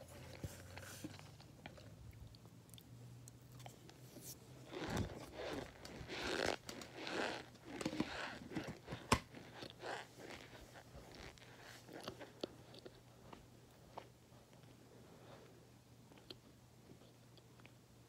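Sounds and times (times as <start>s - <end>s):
chewing: 0.1s - 4.0s, 4.7s - 15.5s.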